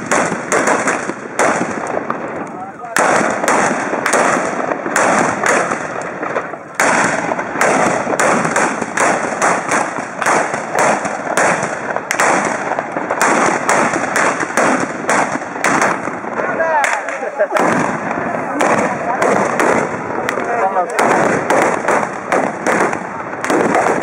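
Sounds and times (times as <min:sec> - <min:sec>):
blunderbuss blank shots: 0:02.9 - 0:24.0.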